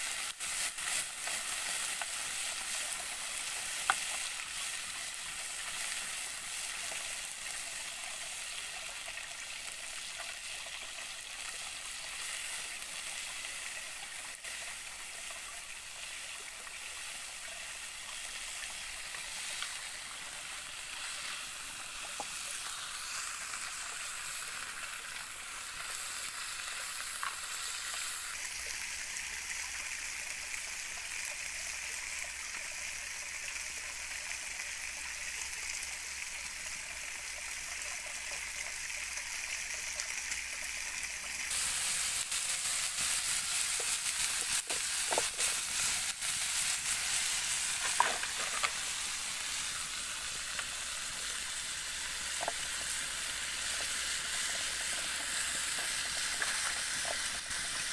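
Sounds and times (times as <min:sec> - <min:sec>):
meat sizzling in a pan: 0:00.0 - 0:57.9.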